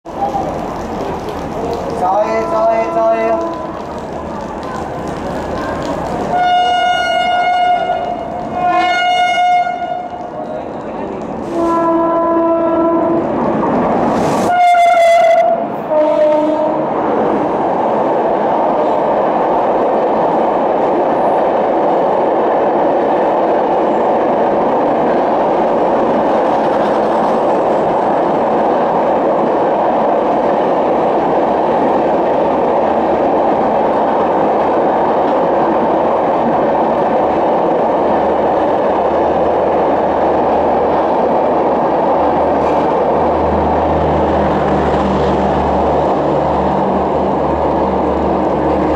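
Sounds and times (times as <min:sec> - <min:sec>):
train wheels rushing on rail: 0:00.0 - 0:48.9.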